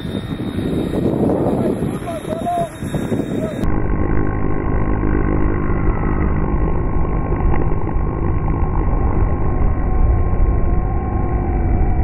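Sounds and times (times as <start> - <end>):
model plane motor droning: 0.0 - 12.0
wind rush on microphone: 0.0 - 12.0.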